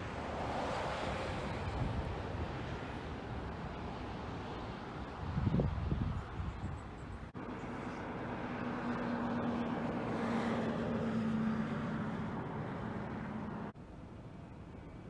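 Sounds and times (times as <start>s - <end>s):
vehicle passing on road: 0.0s - 13.8s
faint outdoor background: 0.0s - 15.0s.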